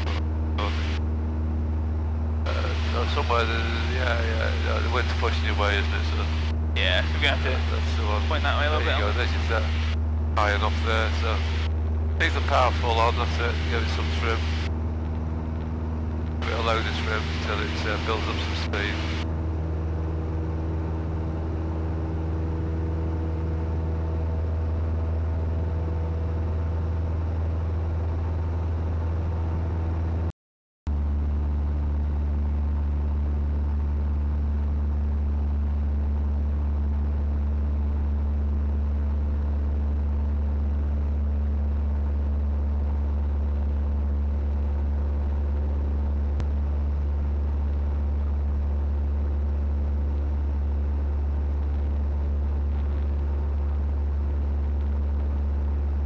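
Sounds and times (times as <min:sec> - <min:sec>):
airplane engine and propeller droning: 0:00.0 - 0:30.3, 0:30.9 - 0:56.0.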